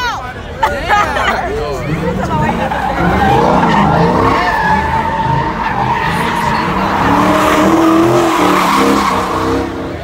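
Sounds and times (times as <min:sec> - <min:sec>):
car engine revving: 0:01.8 - 0:10.0
car tyres squealing: 0:01.8 - 0:10.0.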